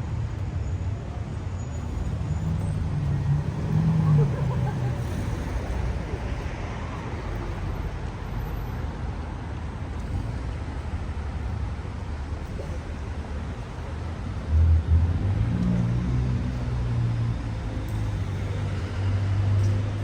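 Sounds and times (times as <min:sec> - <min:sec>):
rumble of passing cars: 0:00.0 - 0:20.0
vehicle engine humming: 0:01.8 - 0:20.0.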